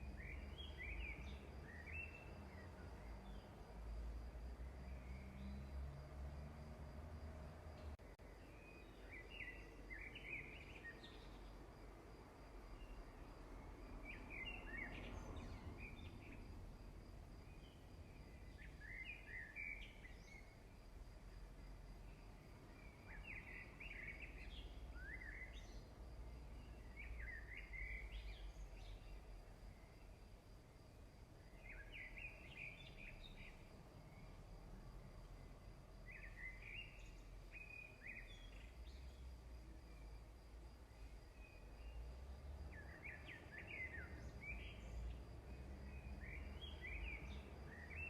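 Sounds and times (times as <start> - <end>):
songbird chirping faintly: 0.0 - 48.0.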